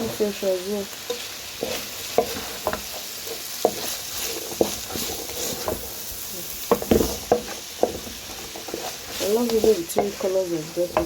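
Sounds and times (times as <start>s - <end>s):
vegetables sizzling in hot oil: 0.0s - 11.0s
utensil scraping and knocking pot: 1.1s - 11.0s.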